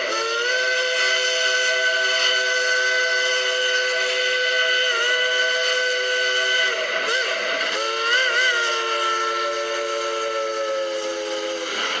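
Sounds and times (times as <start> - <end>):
steam locomotive whistle chord: 0.0 - 12.0.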